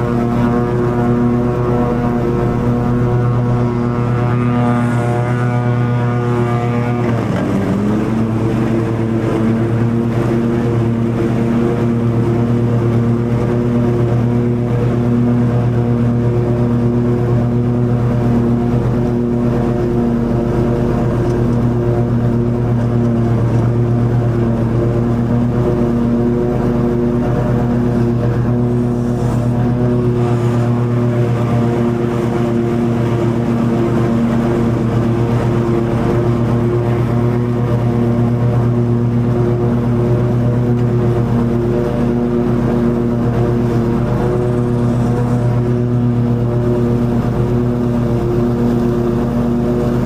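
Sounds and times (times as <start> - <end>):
lawn mower engine running: 0.0 - 50.0.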